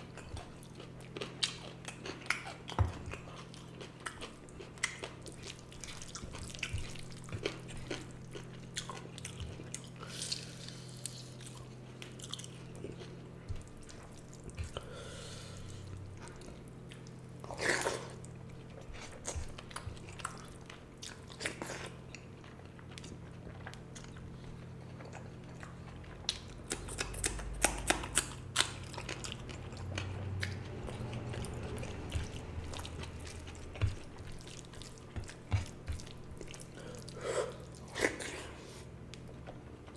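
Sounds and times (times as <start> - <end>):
faint low hum: 0.0 - 39.9
person chewing with mouth smacks: 0.0 - 39.9.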